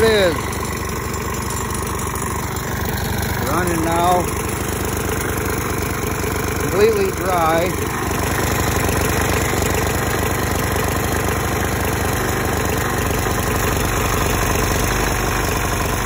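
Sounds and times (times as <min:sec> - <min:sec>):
lawn mower engine idling: 0:00.0 - 0:16.0.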